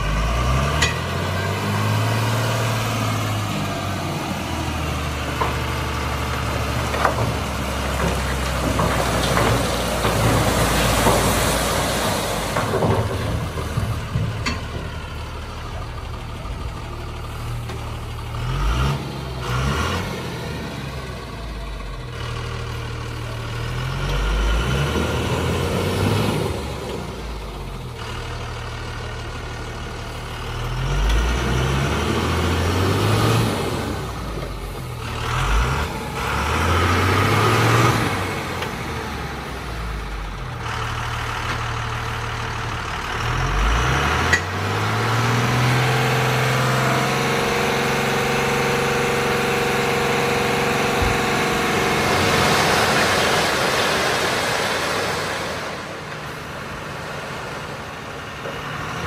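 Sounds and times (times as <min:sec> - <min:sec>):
truck diesel engine revving: 0:00.0 - 0:59.0.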